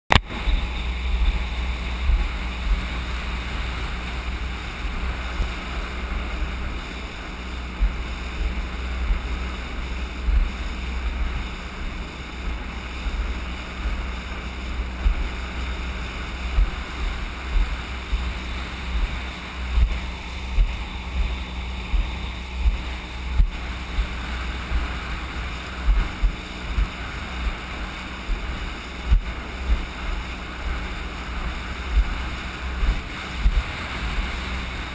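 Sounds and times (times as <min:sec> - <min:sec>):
water rushing past hull: 0:00.1 - 0:34.9
wind buffeting microphone: 0:00.1 - 0:34.9.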